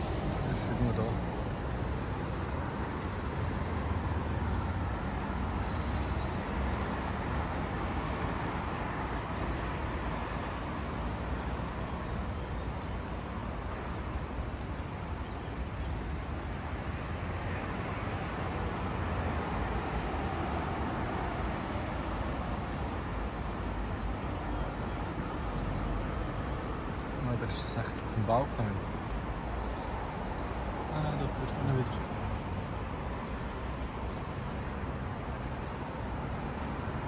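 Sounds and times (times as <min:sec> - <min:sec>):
road traffic roar: 0:00.0 - 0:37.0.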